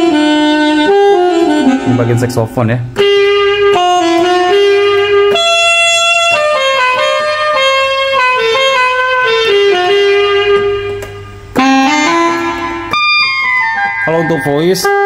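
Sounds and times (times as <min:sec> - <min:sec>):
keyboard saxophone melody: 0:00.0 - 0:15.0.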